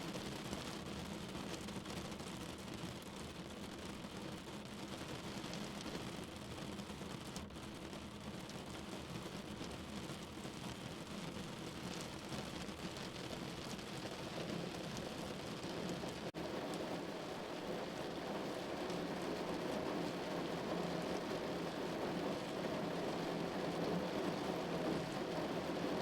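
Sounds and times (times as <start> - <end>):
steady rain falling: 0.1 - 26.0.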